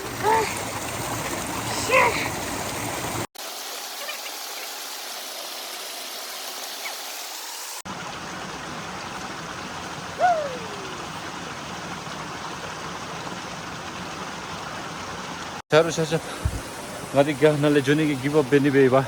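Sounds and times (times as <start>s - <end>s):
stream flowing over rocks: 0.0s - 19.0s.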